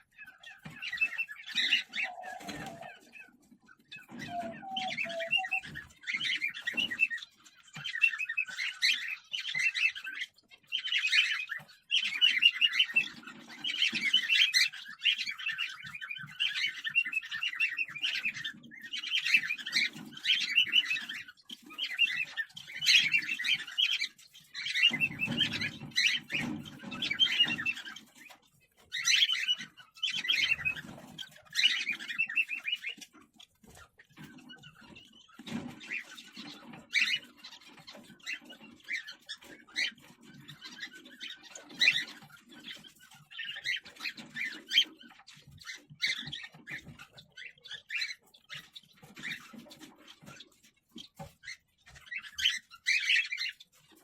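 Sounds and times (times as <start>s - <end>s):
cockatiels chirping: 0.0s - 54.0s.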